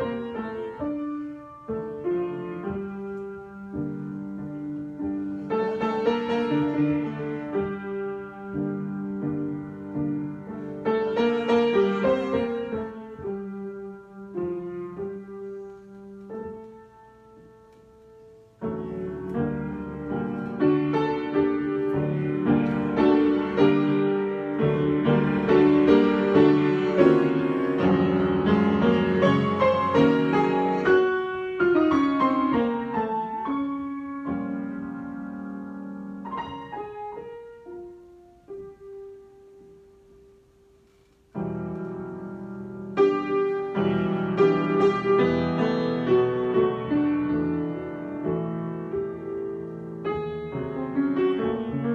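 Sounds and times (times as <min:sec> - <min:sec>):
solo piano: 0:00.0 - 0:51.9.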